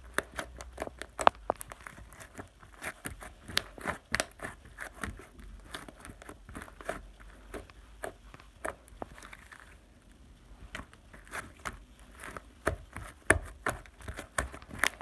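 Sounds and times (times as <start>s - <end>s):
light clicks and crinkling: 0.0s - 15.0s.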